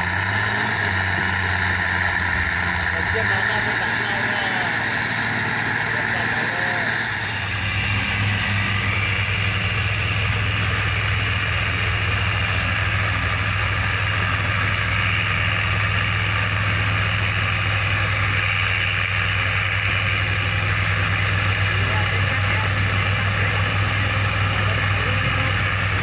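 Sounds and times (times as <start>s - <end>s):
diesel engine running steadily: 0.0s - 26.0s.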